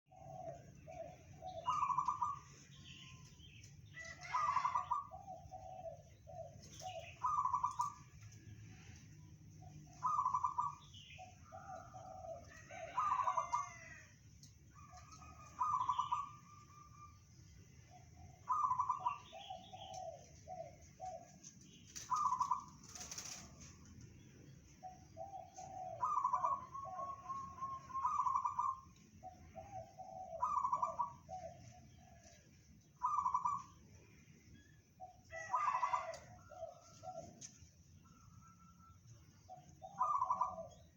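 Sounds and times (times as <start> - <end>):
dove cooing: 0.1 - 8.9, 9.6 - 14.0, 14.8 - 17.1, 17.9 - 23.8, 24.8 - 32.3, 32.9 - 33.8, 35.0 - 40.9.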